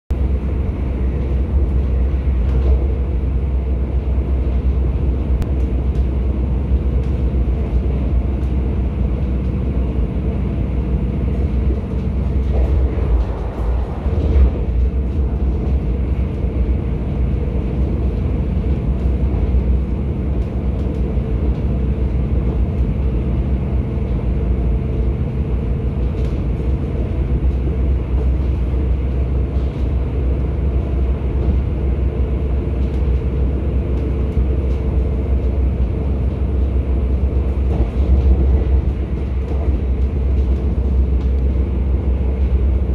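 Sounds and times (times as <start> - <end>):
train rumbling on rails: 0.1 - 42.9.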